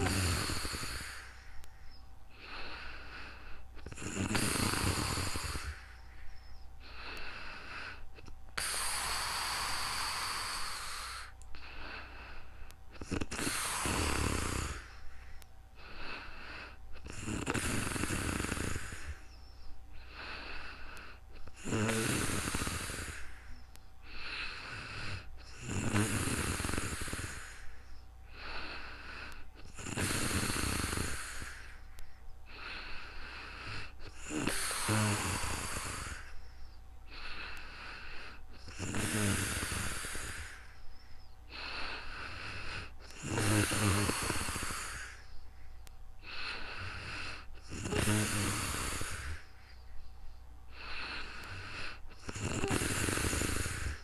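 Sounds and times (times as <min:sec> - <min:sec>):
person snoring: 0:00.0 - 0:01.5, 0:02.3 - 0:06.0, 0:08.6 - 0:12.1, 0:13.0 - 0:15.1, 0:15.9 - 0:19.3, 0:20.0 - 0:23.5, 0:24.1 - 0:31.8, 0:32.5 - 0:36.4, 0:37.1 - 0:40.8, 0:41.5 - 0:45.3, 0:46.2 - 0:49.5, 0:50.7 - 0:54.0
soft breath: 0:00.0 - 0:21.6, 0:22.3 - 0:25.6, 0:26.5 - 0:30.1, 0:30.7 - 0:54.0.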